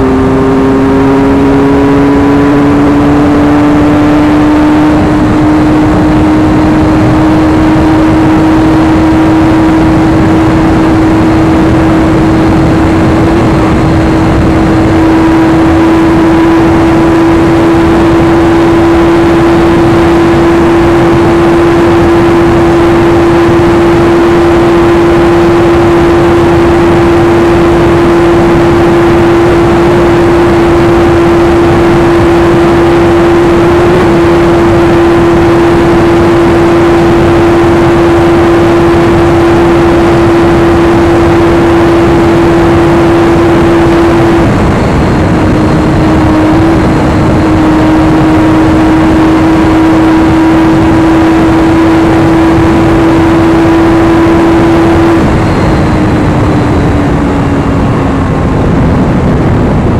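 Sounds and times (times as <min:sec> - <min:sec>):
motorcycle engine at high speed: 0:00.0 - 0:59.9
wind rush: 0:00.0 - 0:59.9.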